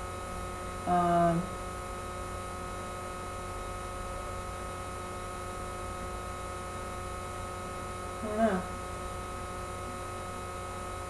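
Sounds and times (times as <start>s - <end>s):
electrical hum with buzz: 0.0s - 11.0s.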